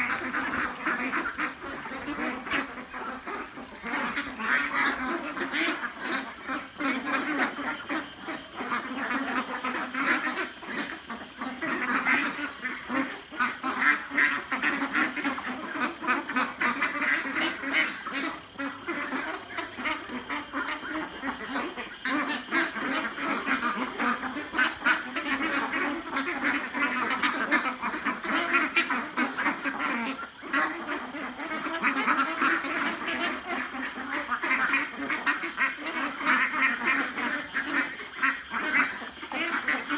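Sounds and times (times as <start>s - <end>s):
bills pecking at food: 0.0s - 39.9s
ducks quacking: 0.0s - 39.9s.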